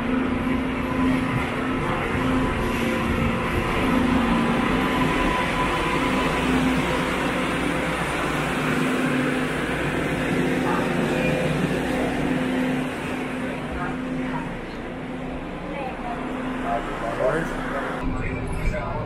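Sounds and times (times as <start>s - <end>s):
light-rail train rumble and hum: 0.0s - 19.0s.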